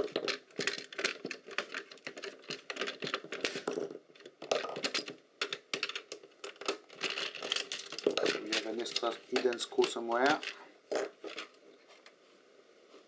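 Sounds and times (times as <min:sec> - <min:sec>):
small clicks and rattles of plastic: 0:00.0 - 0:12.2.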